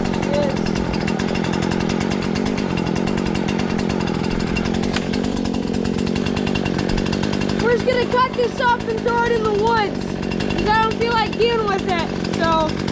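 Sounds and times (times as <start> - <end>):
chainsaw idling: 0.0 - 12.9.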